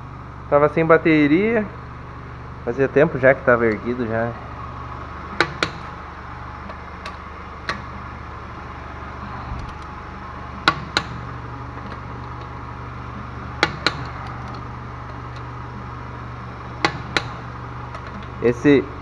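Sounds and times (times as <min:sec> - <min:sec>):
steady low hum: 0:00.0 - 0:19.0
torque wrench clicking: 0:03.1 - 0:19.0.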